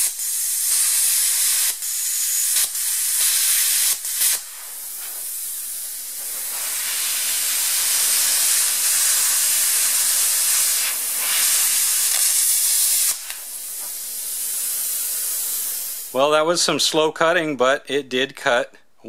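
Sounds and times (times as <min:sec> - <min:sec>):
plasma cutter torch hissing: 0:00.0 - 0:16.3.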